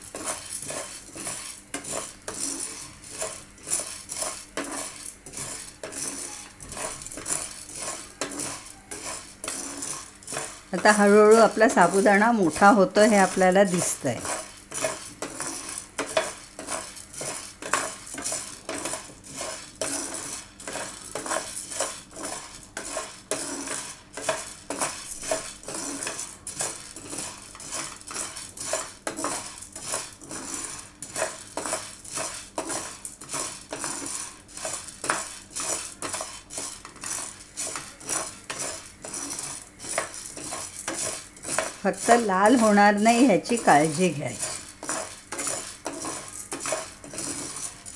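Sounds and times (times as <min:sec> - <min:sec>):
dry pearls rattling in frying pan: 0:00.0 - 0:47.9.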